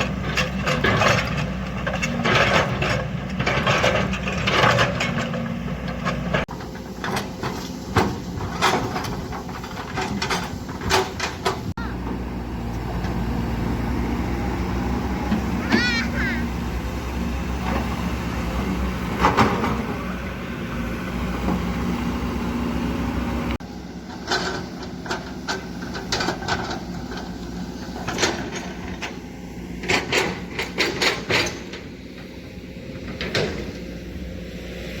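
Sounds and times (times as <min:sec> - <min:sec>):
excavator engine humming: 0:00.0 - 0:35.0.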